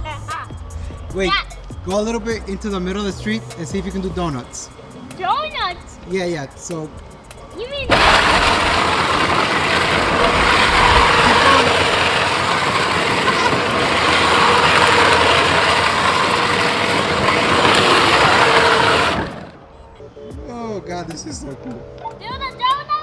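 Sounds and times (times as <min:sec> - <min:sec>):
plastic wheels scrubbing on pavement: 0:00.0 - 0:20.2
electric motors running: 0:00.2 - 0:20.3.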